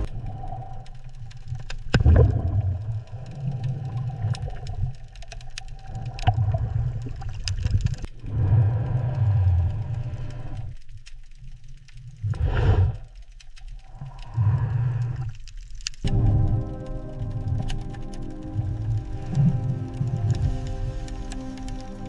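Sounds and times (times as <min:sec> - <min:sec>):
sharp clicks and ticks: 0:00.0 - 0:22.0.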